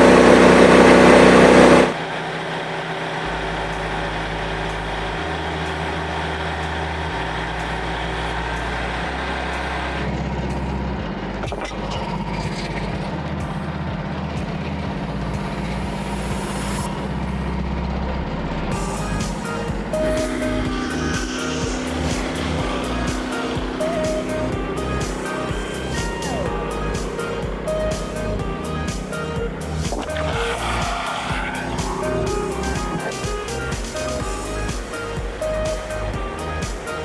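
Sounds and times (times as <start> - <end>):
gasoline engine running: 0.0 - 37.0.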